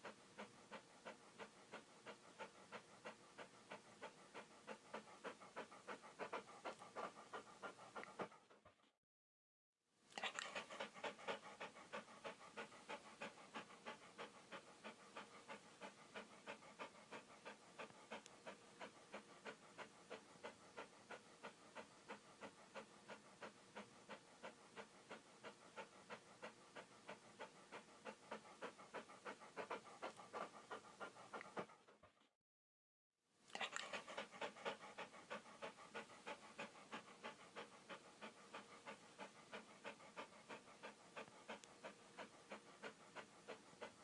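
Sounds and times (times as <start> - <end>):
dog panting: 0.0 - 9.0, 10.1 - 32.4, 33.5 - 44.0.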